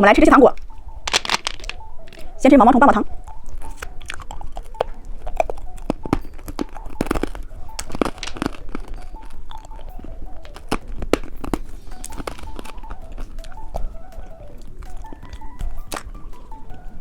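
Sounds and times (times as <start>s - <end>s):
lollipop crunching: 0.6s - 2.3s, 3.3s - 16.9s.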